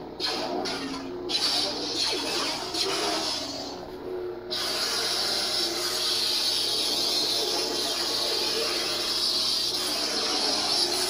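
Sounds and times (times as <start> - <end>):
lightsaber hum: 0.0 - 11.0.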